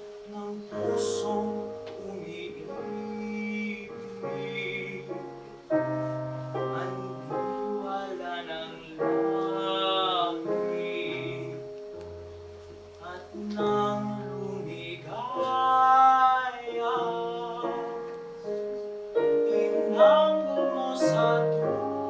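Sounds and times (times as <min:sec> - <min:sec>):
piano accompaniment: 0:00.0 - 0:22.0
man singing a slow ballad: 0:00.1 - 0:11.9, 0:13.0 - 0:18.3, 0:19.1 - 0:22.0.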